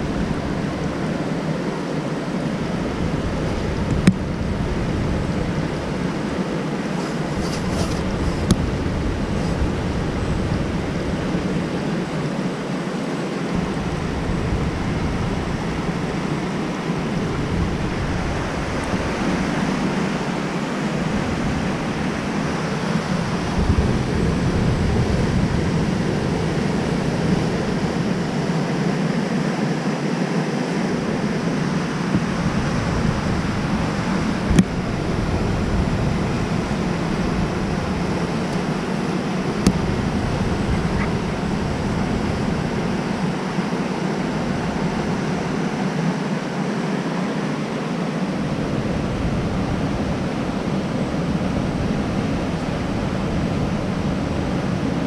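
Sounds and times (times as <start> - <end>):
rushing river and waterfall: 0.0 - 55.0
wind gusting on microphone: 0.0 - 55.0.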